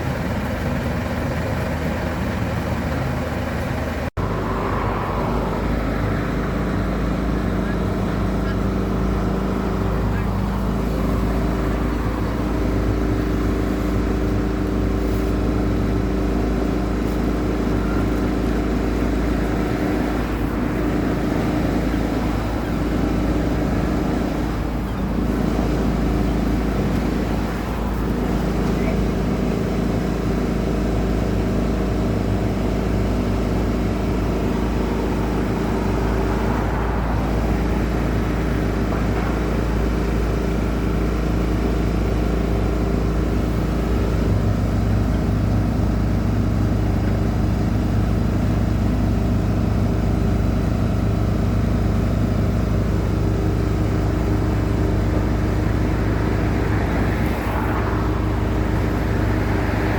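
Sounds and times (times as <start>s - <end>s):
heavy low rumble: 0.0s - 49.4s, 51.8s - 59.9s
engine running steadily: 0.0s - 59.9s.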